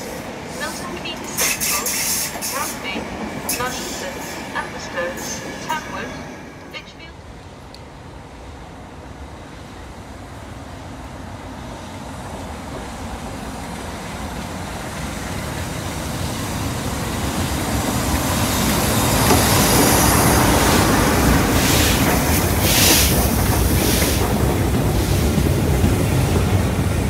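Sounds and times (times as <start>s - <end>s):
diesel locomotive passing: 0.0s - 27.0s.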